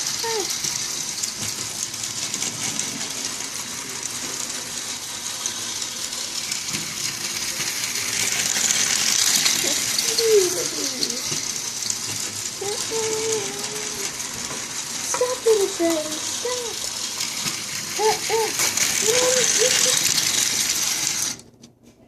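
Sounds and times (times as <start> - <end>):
toy train rattling on track: 0.0 - 21.5.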